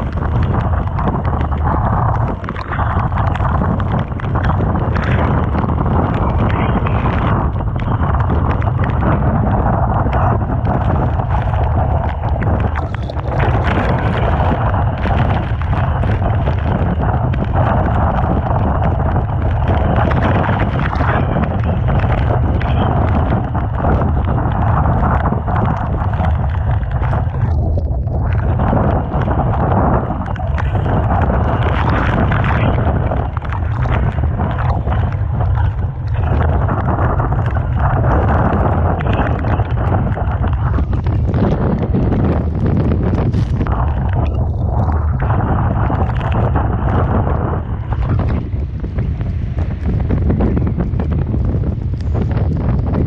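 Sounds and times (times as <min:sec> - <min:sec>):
rough sea and surf roar: 0:00.0 - 0:53.0
wind buffeting the microphone: 0:00.0 - 0:53.0.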